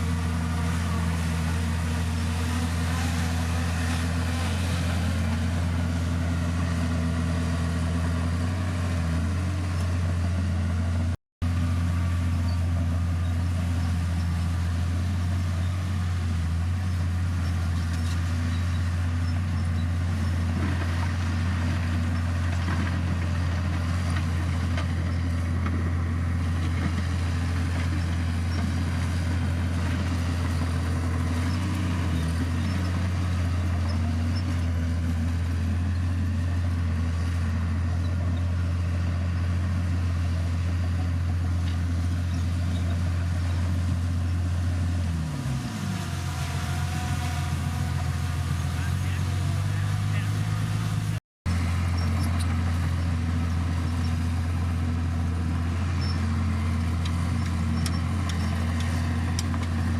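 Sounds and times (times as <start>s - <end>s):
diesel engine running under work: 0.0s - 59.9s.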